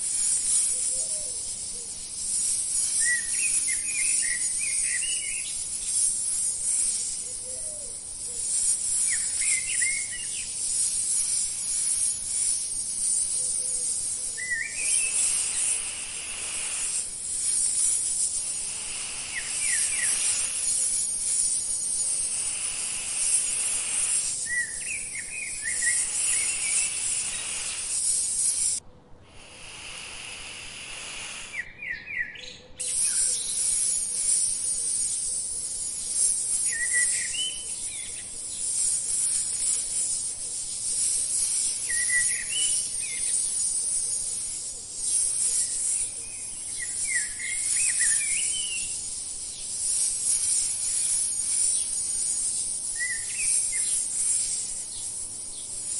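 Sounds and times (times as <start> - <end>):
small bird chirping: 0.0 - 28.8, 29.4 - 55.9
high-pitched insect chorus: 0.0 - 55.9.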